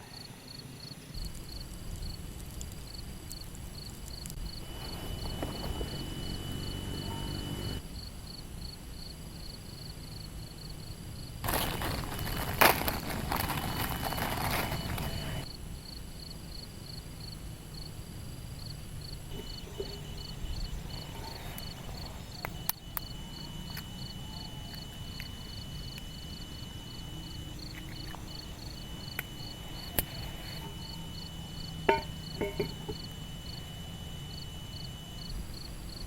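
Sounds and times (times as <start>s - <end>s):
crickets chirping: 0.0s - 36.0s
high insect trill: 0.0s - 36.0s.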